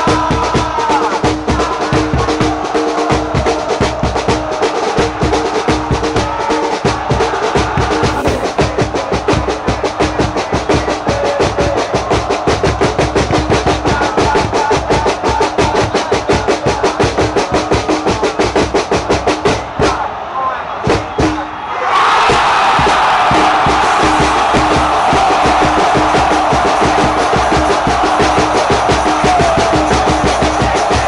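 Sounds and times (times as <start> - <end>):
drums beating: 0.0 - 20.1, 20.8 - 21.6, 22.2 - 31.0
crowd chanting: 0.0 - 31.0.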